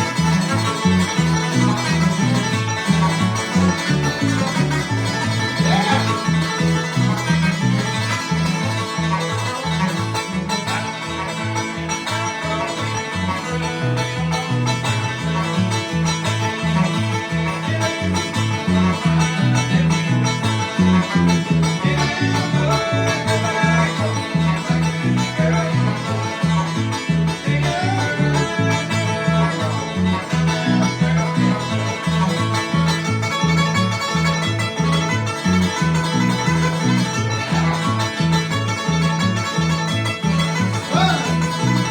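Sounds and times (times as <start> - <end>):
alternating bass line: 0.0 - 41.9
banjo picking: 0.0 - 41.9
strummed guitar: 0.0 - 41.9.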